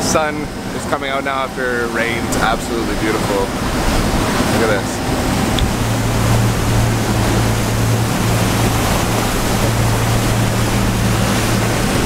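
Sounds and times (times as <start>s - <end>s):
low engine drone: 0.0s - 12.0s
water rushing along hull: 0.0s - 12.0s.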